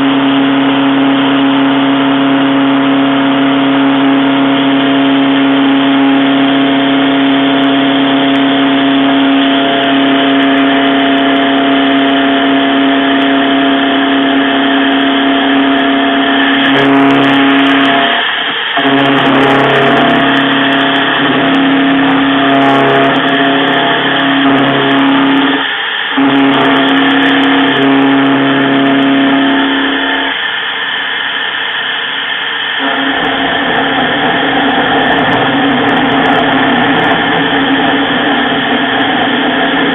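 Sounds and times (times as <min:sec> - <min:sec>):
high steady machine tone: 0:00.0 - 0:39.9
machine tool motor hum: 0:00.0 - 0:39.9.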